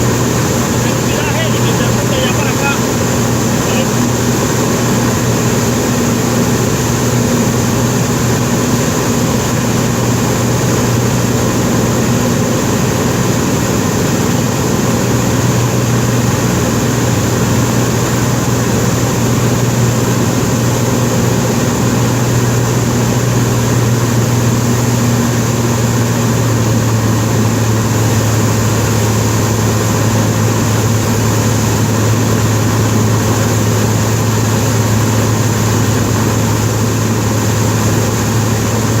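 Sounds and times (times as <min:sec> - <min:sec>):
propeller plane engine drone: 0:00.0 - 0:39.0.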